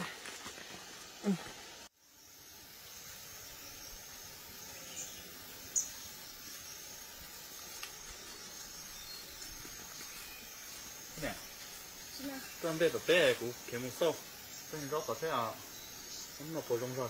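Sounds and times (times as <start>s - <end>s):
faint insect calls: 0.0s - 17.0s
steady forest hiss: 0.0s - 17.0s.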